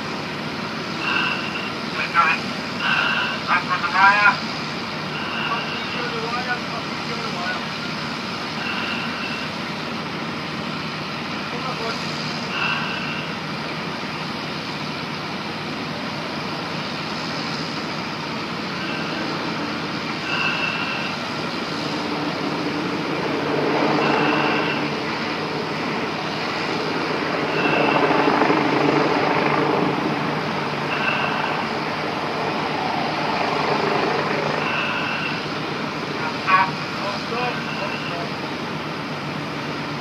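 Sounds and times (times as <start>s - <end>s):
crane engine running: 0.0s - 40.0s.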